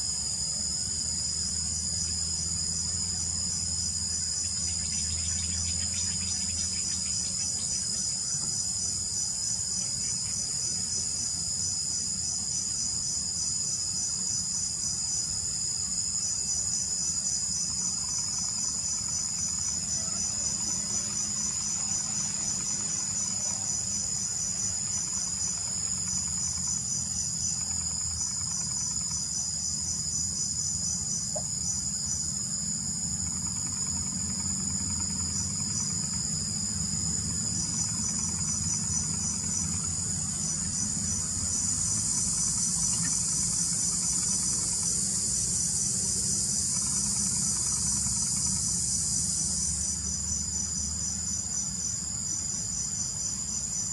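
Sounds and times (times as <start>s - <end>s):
crickets trilling chorus: 0.0s - 53.9s
insect chirping in pulses: 0.0s - 53.9s.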